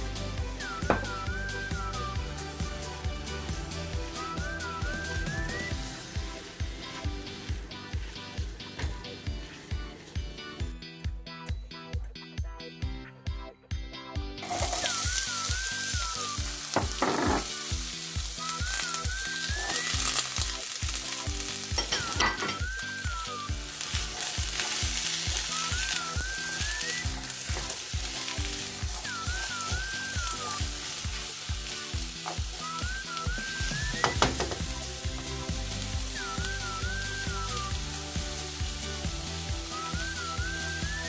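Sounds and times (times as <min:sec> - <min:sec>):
food sizzling in a pan: 0:00.0 - 0:10.6, 0:14.4 - 0:41.0
background music with a beat: 0:00.0 - 0:41.0.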